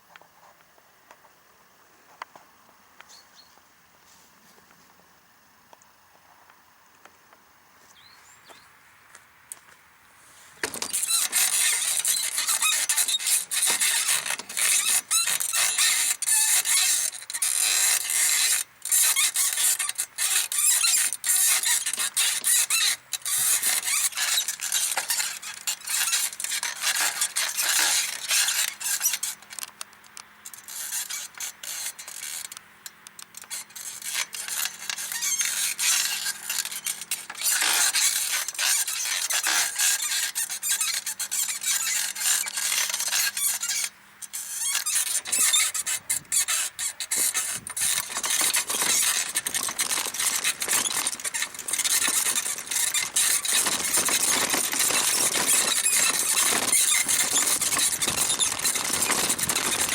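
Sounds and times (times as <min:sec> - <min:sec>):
bicycle saddle squeaking: 0:10.5 - 0:59.9.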